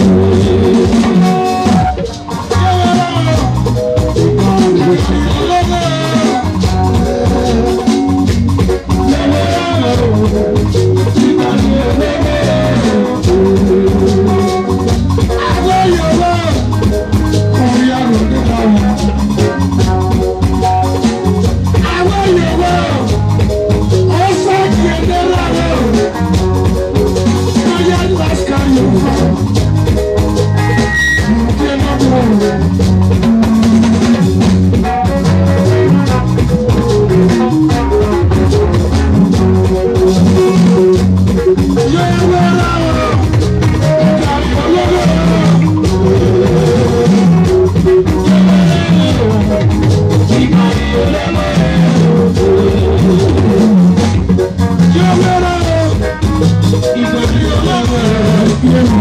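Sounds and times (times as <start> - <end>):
man singing into a microphone: 0.0 - 20.4, 21.7 - 23.3, 23.9 - 26.4, 27.3 - 29.6, 31.2 - 34.5, 41.7 - 59.0
drum kit steady beat: 0.0 - 59.0
electric guitars: 0.0 - 59.0.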